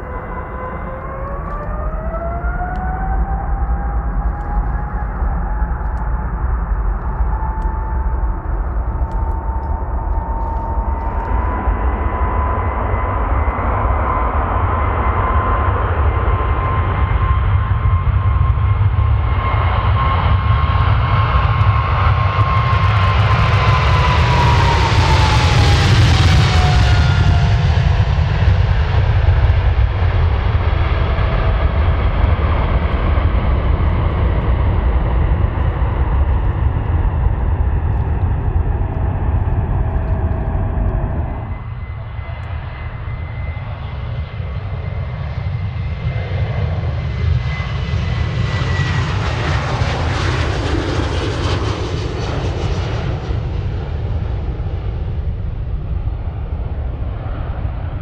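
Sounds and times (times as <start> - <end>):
jet airliner engines roaring: 0.0 - 58.0
quieter jet with high whine: 0.0 - 58.0.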